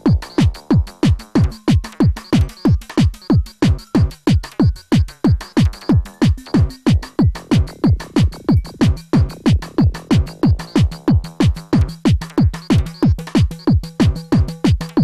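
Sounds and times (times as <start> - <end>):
hi-hats: 0.0 - 15.0
synthesized kick drum: 0.0 - 15.0.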